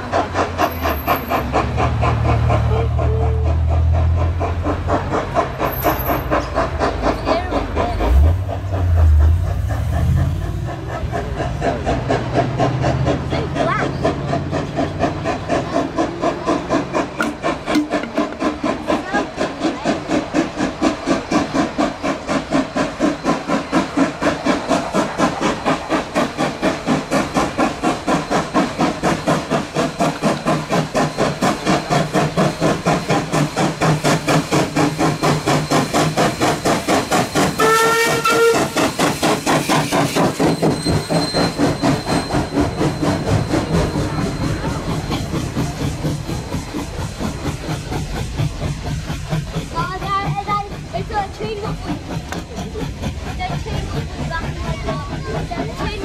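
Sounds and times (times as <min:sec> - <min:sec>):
steam locomotive exhaust chuffing: 0:00.0 - 0:56.0.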